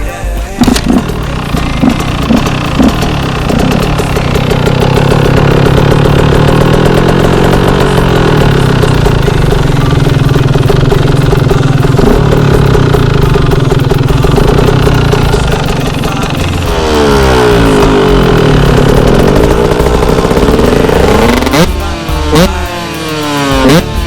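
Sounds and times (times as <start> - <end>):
two-stroke engine idling: 0.0 - 24.0.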